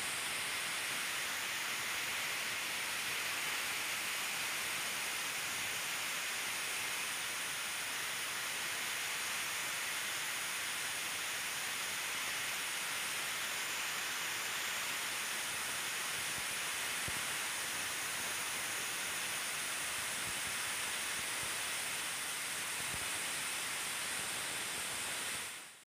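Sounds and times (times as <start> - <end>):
steady hiss: 0.0 - 25.8.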